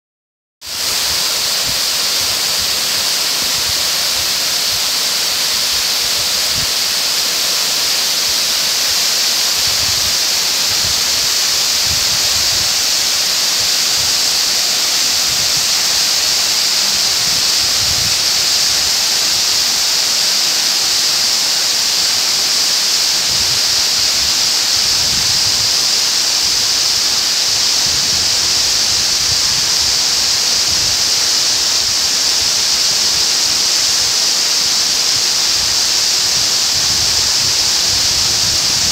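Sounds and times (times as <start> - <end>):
waterfall rushing onto rock: 0.6 - 38.9.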